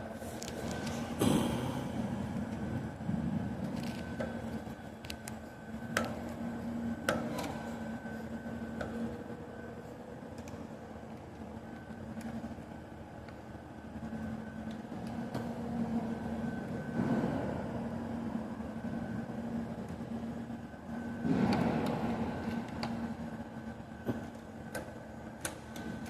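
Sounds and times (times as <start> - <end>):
machinery hum: 0.0 - 26.0.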